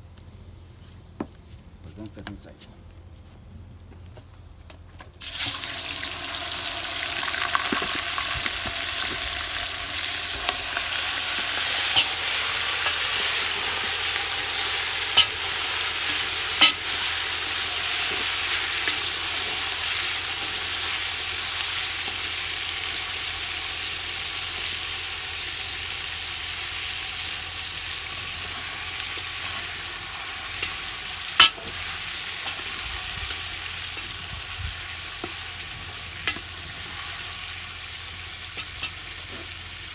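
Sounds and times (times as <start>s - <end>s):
meat sizzling in hot fat: 5.2s - 39.9s.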